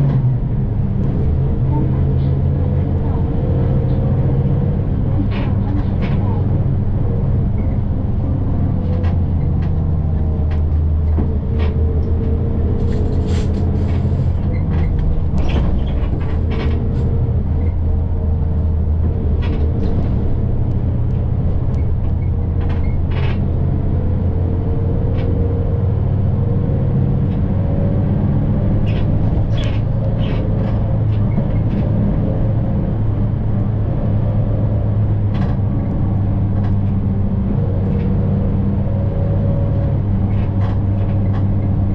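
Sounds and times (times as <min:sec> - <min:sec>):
bus engine and road drone: 0:00.0 - 0:41.9
light rattles and clicks: 0:00.1 - 0:41.9.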